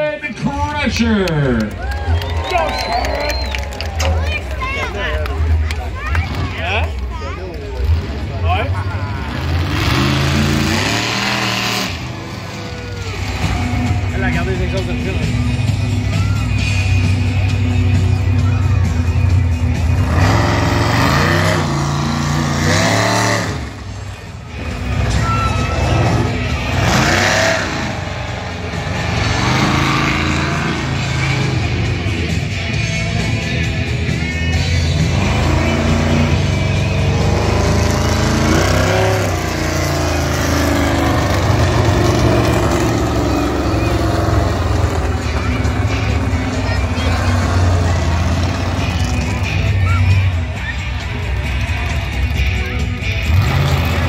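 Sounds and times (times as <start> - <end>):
music playing: 0.0 - 54.0
truck engine revving hard: 7.7 - 54.0.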